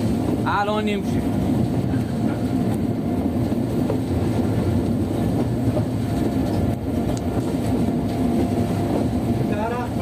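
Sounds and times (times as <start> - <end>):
train engine and wheels rumbling: 0.0 - 10.0.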